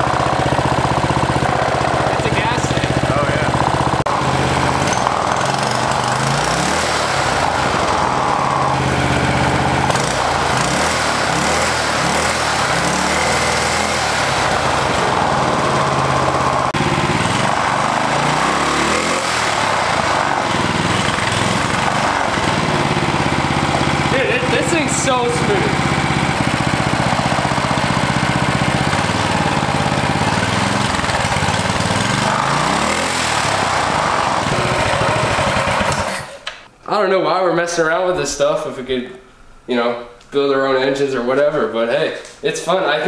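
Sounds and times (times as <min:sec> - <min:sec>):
small engine running: 0:00.0 - 0:36.4.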